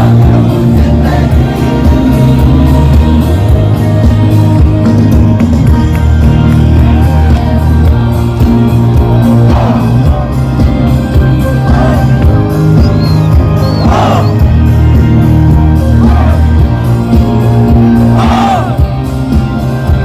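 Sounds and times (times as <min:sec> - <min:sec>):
crowd shouting and cheering: 0:00.0 - 0:20.0
live band music with heavy bass: 0:00.0 - 0:20.0.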